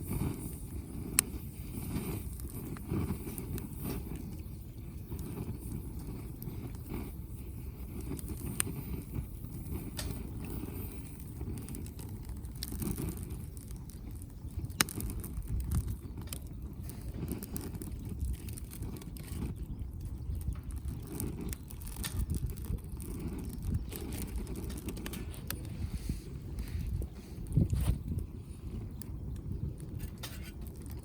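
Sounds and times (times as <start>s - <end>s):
firewood crackling and popping: 0.0s - 31.0s.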